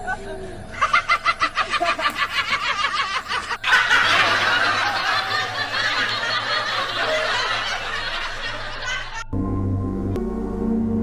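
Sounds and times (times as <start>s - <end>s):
crowd laughing: 0.0s - 9.3s.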